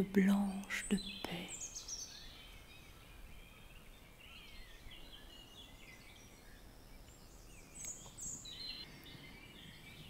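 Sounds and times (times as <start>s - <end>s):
small birds chirping and warbling: 0.0s - 10.0s.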